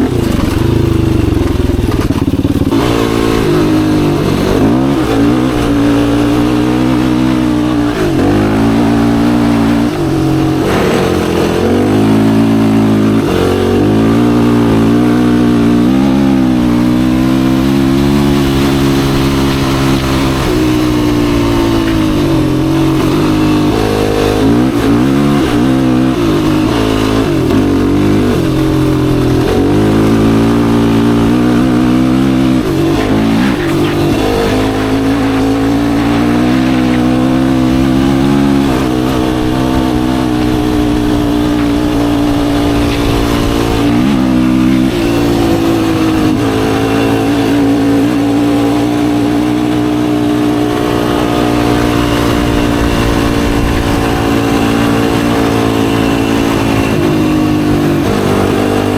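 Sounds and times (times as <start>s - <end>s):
quad engine revving: 0.0s - 58.9s.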